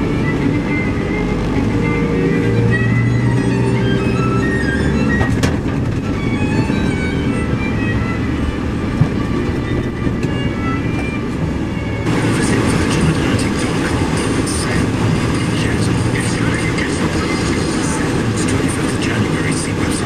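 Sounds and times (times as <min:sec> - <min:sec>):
classical music from car radio: 0:00.0 - 0:20.0
road rumble inside moving car: 0:00.0 - 0:20.0.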